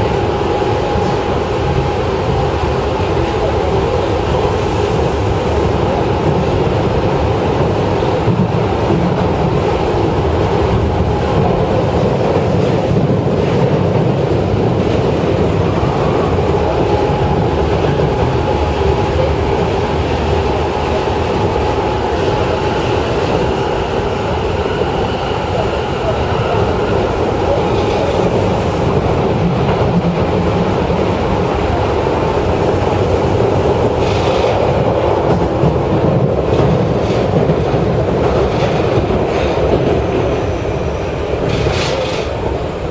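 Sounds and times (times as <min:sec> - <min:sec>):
rail clatter: 0:00.0 - 0:42.9
train wheels rumbling on rails: 0:00.0 - 0:42.9.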